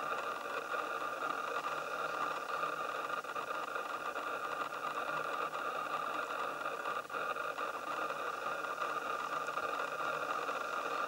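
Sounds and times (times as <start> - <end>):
steady whirring hiss: 0.0 - 11.0.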